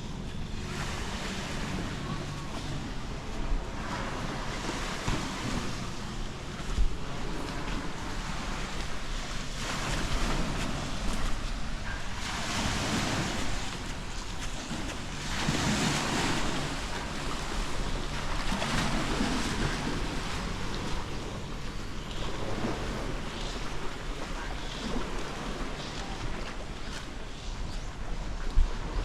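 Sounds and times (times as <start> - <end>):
wind rumbling on microphone: 0.0 - 29.0
small waves breaking on sand: 0.6 - 29.0.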